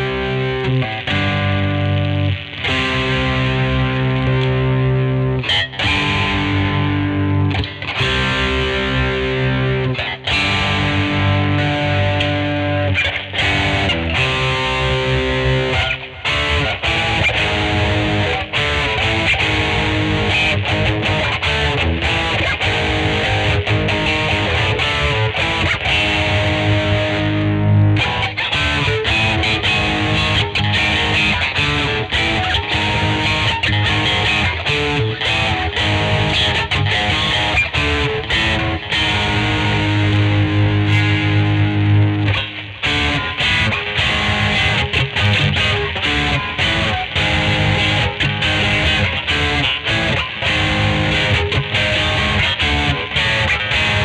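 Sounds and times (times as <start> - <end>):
electric guitar chords: 0.0 - 54.0.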